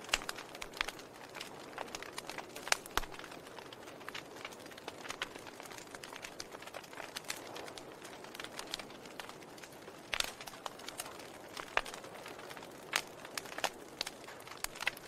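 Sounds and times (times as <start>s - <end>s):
loud fire snaps: 0.0s - 15.0s
wood fire crackling and popping: 0.0s - 15.0s.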